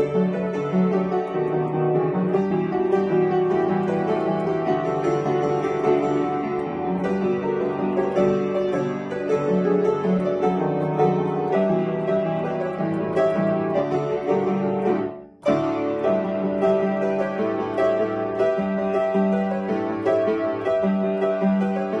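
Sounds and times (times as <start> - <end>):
upright piano playing lively tune: 0.0 - 22.0.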